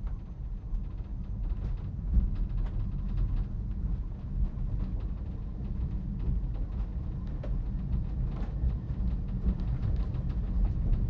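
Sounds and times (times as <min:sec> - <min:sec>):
tramcar rumbling on rails: 0:00.0 - 0:11.0.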